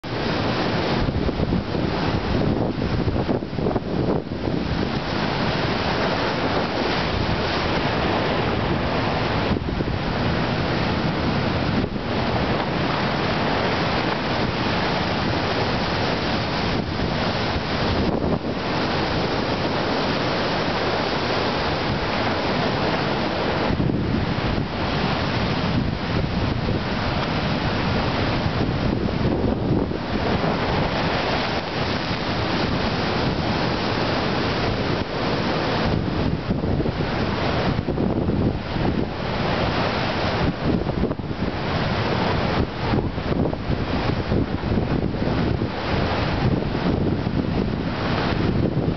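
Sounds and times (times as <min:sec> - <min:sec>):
surf waves breaking: 0:00.0 - 0:48.9
wind buffeting microphone: 0:00.0 - 0:48.9.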